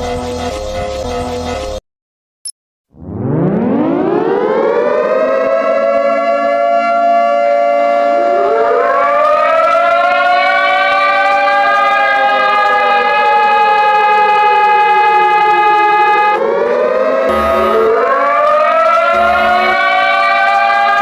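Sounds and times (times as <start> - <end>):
higher siren tone: 3.0 - 21.0
outdoor warning siren wailing: 3.0 - 21.0.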